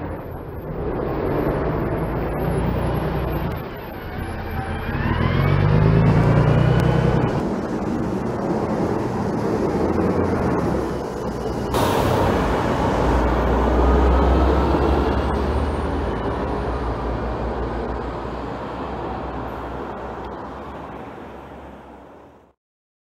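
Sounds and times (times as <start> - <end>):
cars passing: 0.0 - 22.5
deep bus engine rumble: 0.0 - 22.5.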